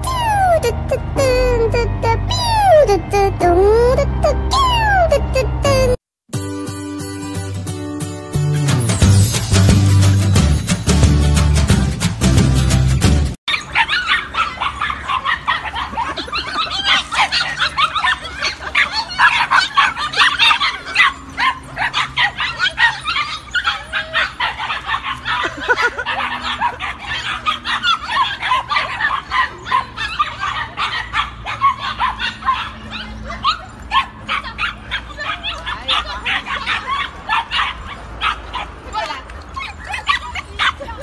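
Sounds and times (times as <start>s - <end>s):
puppies yipping and barking: 0.0s - 6.0s, 13.5s - 41.0s.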